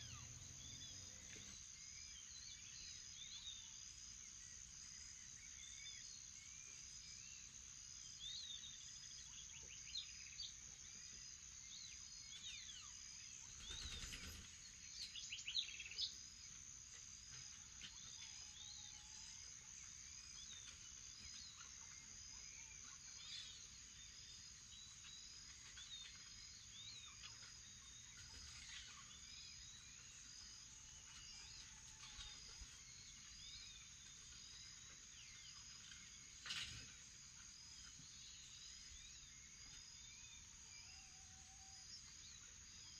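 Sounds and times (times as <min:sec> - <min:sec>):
bird calls: 0:00.0 - 0:03.7, 0:11.8 - 0:42.9.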